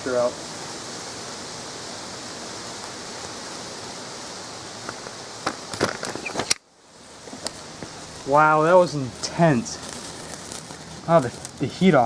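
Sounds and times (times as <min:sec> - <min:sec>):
burning paper hissing: 0:00.0 - 0:12.0
fire crackles: 0:00.0 - 0:12.0.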